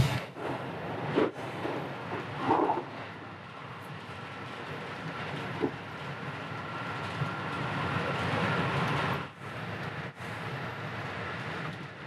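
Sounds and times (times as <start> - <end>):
train rumble and hiss: 0.0 - 12.0.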